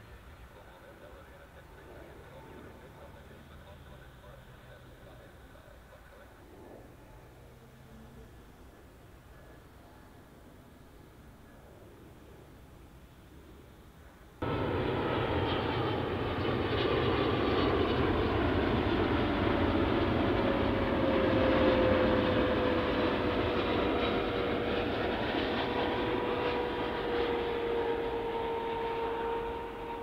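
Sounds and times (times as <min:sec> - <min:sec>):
jet airliner engines rumbling: 0:00.0 - 0:30.0.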